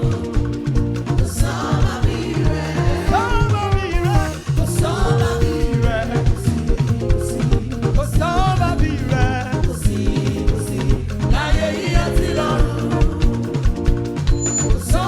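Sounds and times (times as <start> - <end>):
person singing: 0.0 - 13.8
drum and bass beat: 0.0 - 15.0.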